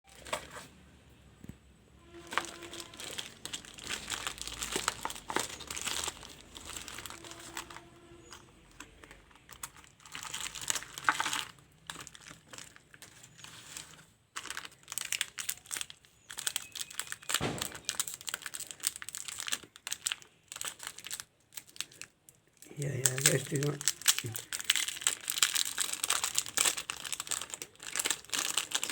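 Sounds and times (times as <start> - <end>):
packaging crinkling and tearing: 0.1 - 0.7, 2.1 - 28.9.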